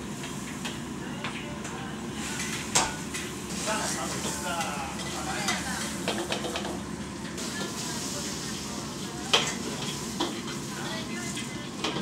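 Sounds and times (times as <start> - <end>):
vegetables sizzling in a wok: 2.1 - 12.0.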